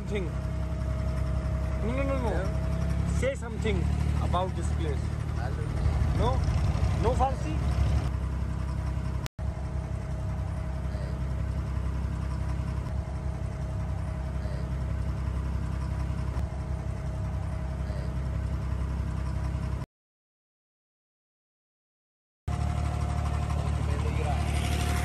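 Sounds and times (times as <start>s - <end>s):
diesel boat engine droning: 0.0s - 19.8s, 22.5s - 25.0s.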